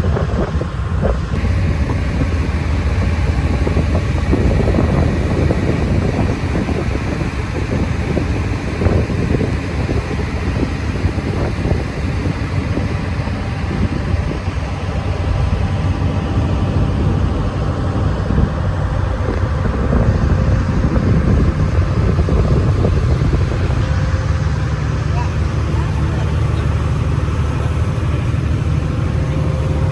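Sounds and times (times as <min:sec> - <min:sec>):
ferry engine droning: 0:00.0 - 0:29.9
wind noise on microphone: 0:00.0 - 0:29.9.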